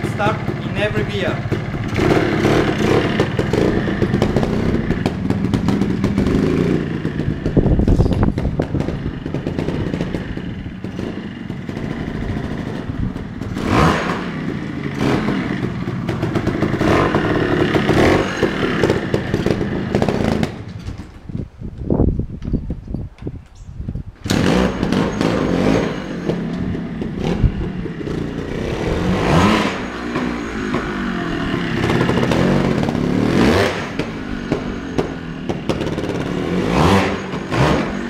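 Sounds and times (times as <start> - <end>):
two-stroke motorcycle engine revving: 0.0 - 20.8, 24.2 - 38.0.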